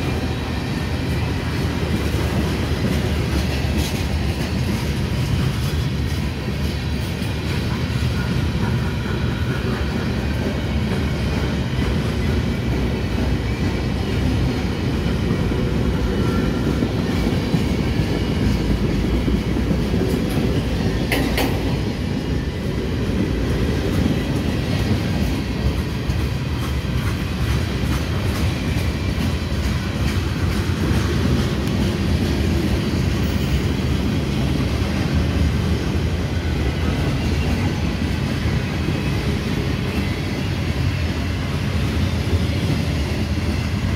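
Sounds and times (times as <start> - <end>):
clickety-clack over rail joints: 0.0 - 43.9
train wheels rumbling on rails: 0.0 - 43.9.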